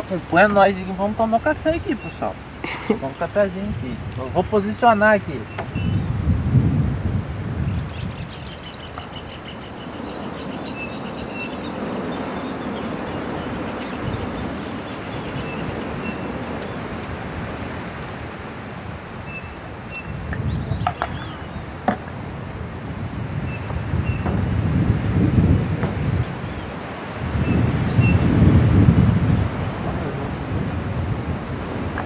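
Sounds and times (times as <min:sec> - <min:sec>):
insect chirps: 0:00.0 - 0:32.0
insect drone: 0:00.0 - 0:32.0
wind on microphone: 0:00.0 - 0:32.0.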